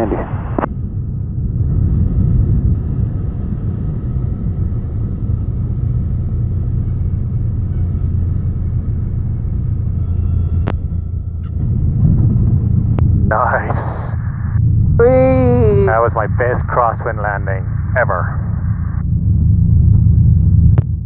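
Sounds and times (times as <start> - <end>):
airplane engine and rushing air: 0.0 - 21.0.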